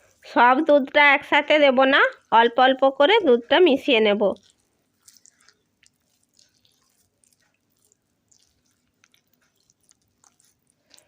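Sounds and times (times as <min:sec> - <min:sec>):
spatula stirring cake batter: 0:00.0 - 0:11.0.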